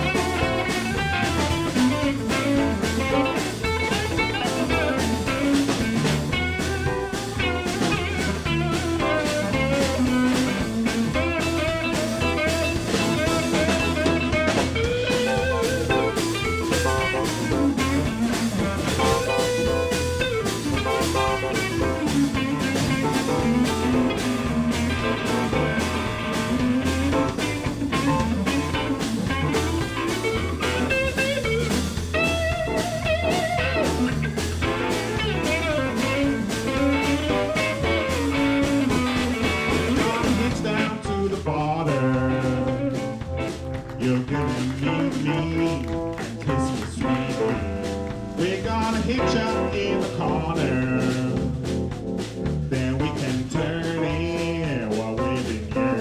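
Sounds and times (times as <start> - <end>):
bending lead guitar: 0.0 - 56.0
blues band playing: 0.0 - 56.0.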